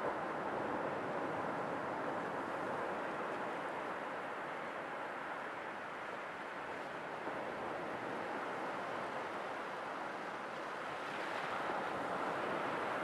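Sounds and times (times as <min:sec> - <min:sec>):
sea waves washing on shore: 0:00.5 - 0:13.0.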